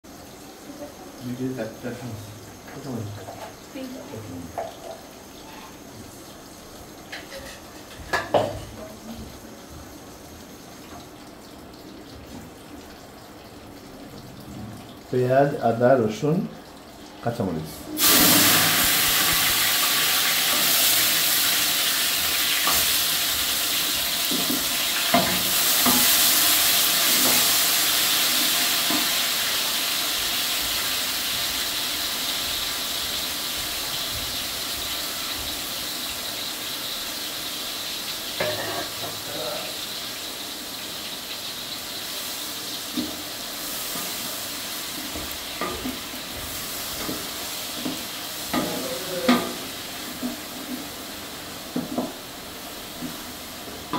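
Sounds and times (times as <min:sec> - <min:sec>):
onions sizzling in hot oil: 0:00.1 - 0:53.9.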